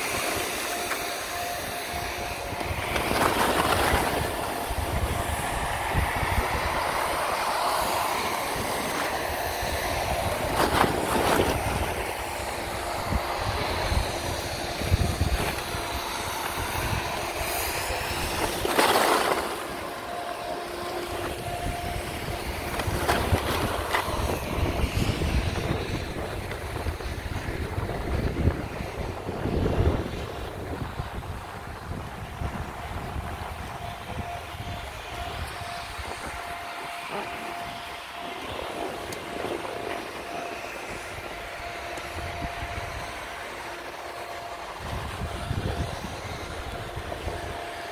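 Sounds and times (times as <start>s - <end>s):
skis scraping packed snow: 0.0s - 47.9s
wind rumbling on microphone: 0.0s - 47.9s.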